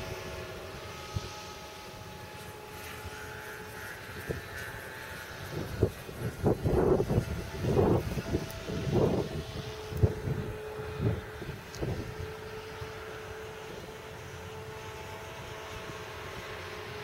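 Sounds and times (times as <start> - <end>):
electric motor and propeller whine: 0.0 - 17.0
low wind buffets: 0.0 - 17.0.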